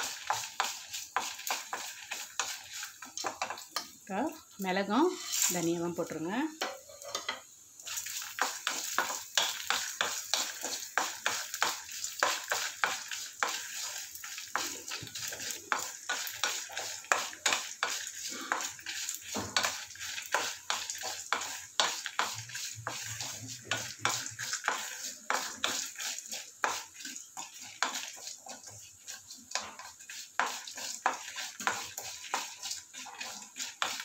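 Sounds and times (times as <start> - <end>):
wooden spatula scraping metal pan: 0.0 - 3.9, 4.8 - 34.0
seeds rattling in pan: 0.0 - 7.1, 7.8 - 34.0.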